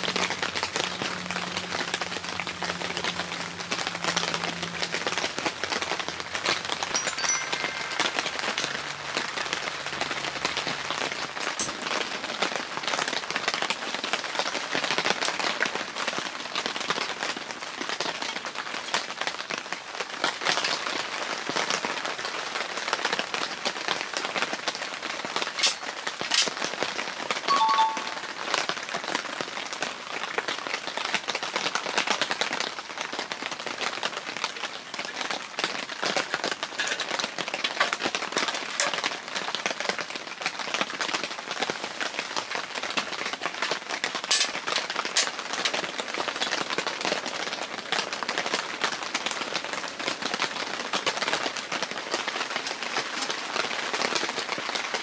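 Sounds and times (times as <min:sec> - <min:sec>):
rain on a fabric roof: 0:00.0 - 0:55.0.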